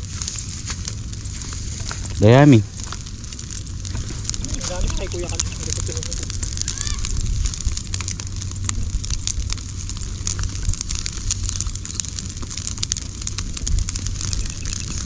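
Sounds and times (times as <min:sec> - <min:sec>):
low rumble: 0:00.0 - 0:15.0
straw burning and crackling: 0:00.0 - 0:15.0.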